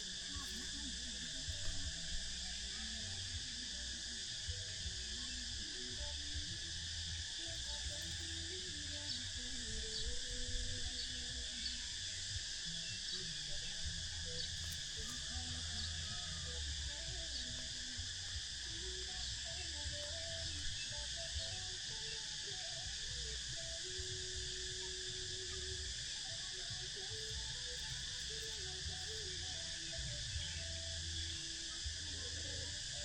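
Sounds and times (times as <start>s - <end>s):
shrill insect chorus: 0.0s - 33.0s.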